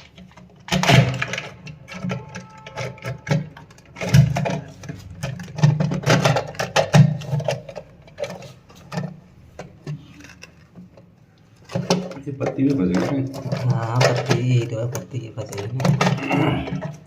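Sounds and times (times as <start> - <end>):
plastic cistern parts clicking and rattling: 0.0 - 17.0.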